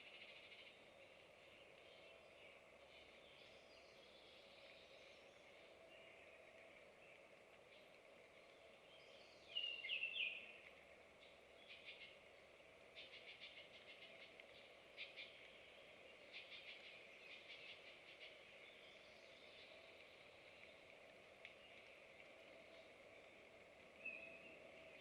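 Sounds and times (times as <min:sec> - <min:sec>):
songbird calls and trills: 0:00.0 - 0:25.0.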